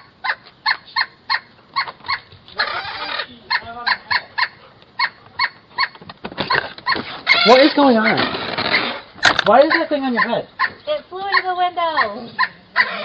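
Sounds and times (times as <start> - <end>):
rough animal noise: 0.0 - 13.0.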